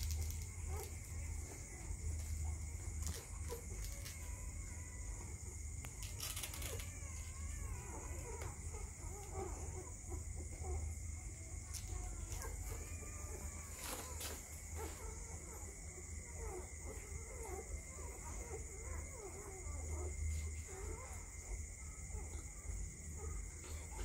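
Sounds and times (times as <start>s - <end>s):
puppies squeaking and whimpering: 0.0s - 22.4s.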